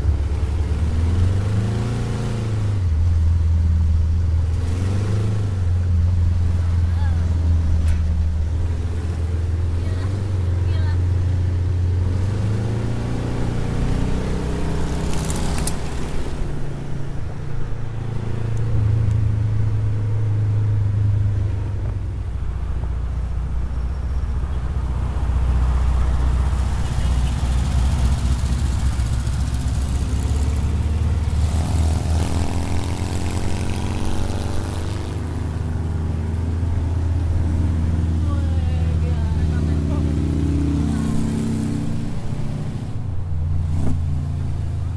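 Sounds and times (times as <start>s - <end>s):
car engine droning: 0.0s - 44.9s
road noise: 0.0s - 44.9s.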